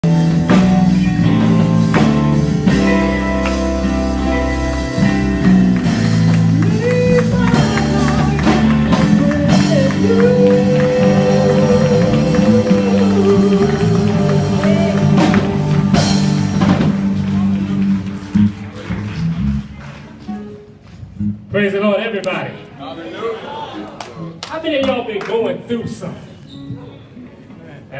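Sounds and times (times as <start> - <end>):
gospel band music: 0.0 - 26.8.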